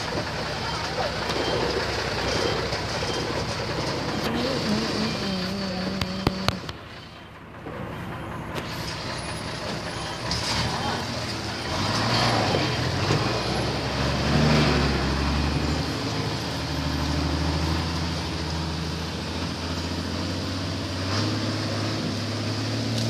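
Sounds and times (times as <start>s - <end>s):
diesel lorry engine running: 0.0s - 23.0s.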